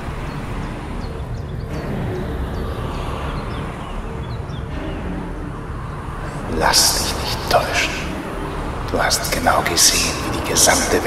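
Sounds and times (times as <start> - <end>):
road traffic rumble: 0.0 - 11.0
small birds chirping: 0.0 - 11.0.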